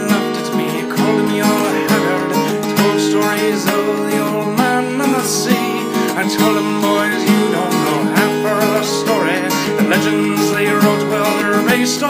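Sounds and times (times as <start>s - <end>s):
acoustic guitar folk ballad: 0.0s - 12.0s
melody line: 0.0s - 12.0s.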